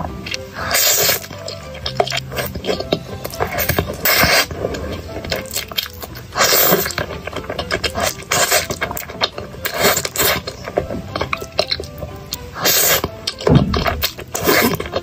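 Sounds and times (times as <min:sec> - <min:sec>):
noodle slurping: 0:00.0 - 0:15.0
wet chewing: 0:00.0 - 0:15.0
lip smacks: 0:00.3 - 0:15.0.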